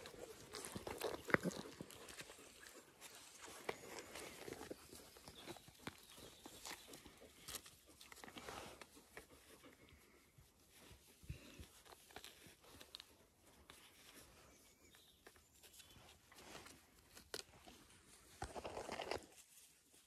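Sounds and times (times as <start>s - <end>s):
puppies rustling and play-biting: 0.0s - 20.0s.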